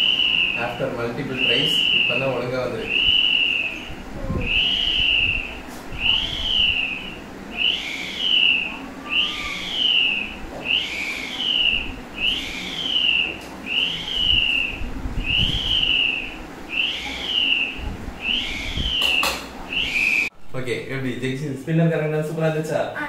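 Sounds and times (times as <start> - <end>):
string whirligig whistling: 0.0 - 20.3.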